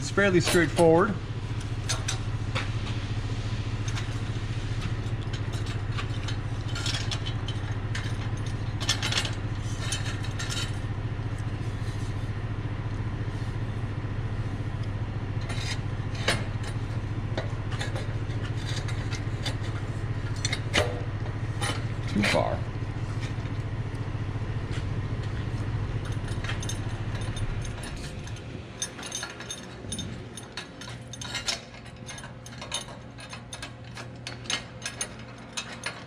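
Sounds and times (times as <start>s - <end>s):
steady low hum: 0.0s - 36.0s
metal clinks and scrapes: 0.1s - 2.7s, 3.8s - 12.4s, 15.4s - 23.5s, 24.7s - 36.0s.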